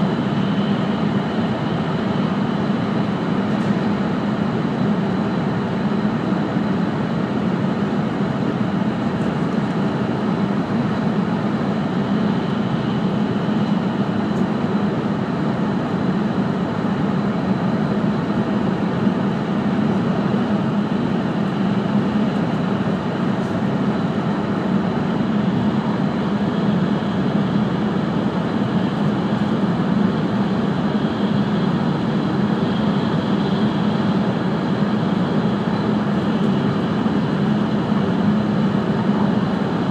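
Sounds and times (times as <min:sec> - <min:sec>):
train cabin rumble with low hum: 0:00.0 - 0:39.9.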